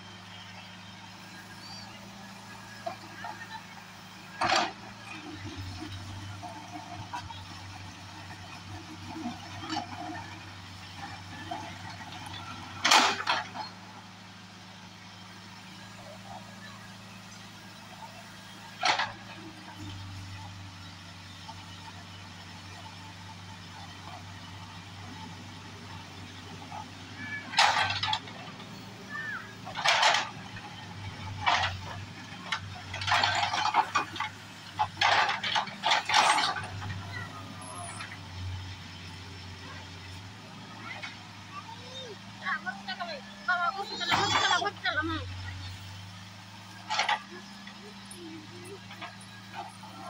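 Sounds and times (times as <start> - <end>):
diesel engine running at low revs: 0.0 - 50.0.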